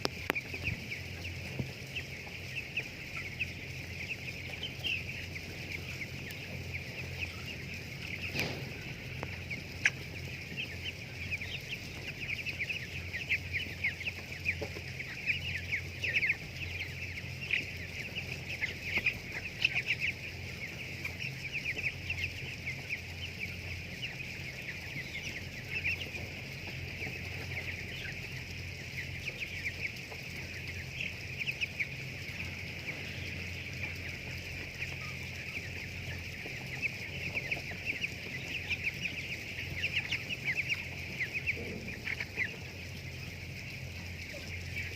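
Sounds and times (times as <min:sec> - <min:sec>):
chickens calling: 0:00.0 - 0:44.9.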